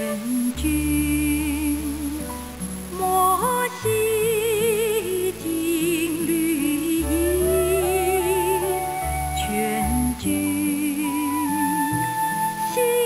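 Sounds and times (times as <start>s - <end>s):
woman singing with vibrato: 0.0s - 2.3s, 2.9s - 13.0s
soft instrumental accompaniment: 0.0s - 13.0s.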